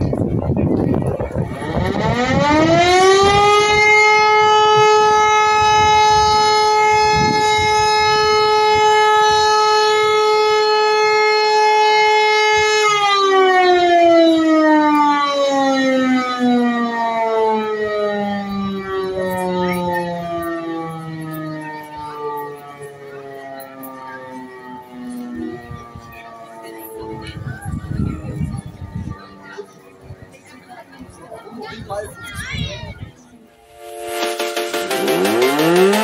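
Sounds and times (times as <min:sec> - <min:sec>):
rotor siren sounding: 0:00.6 - 0:29.1, 0:33.7 - 0:36.0.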